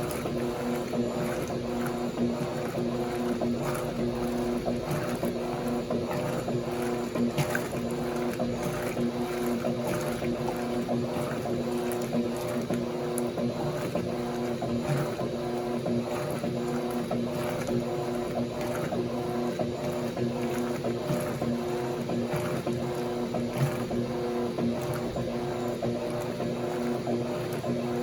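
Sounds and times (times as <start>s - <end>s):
washing machine motor hum: 0.0s - 28.0s
water-laden load churning: 0.0s - 28.0s.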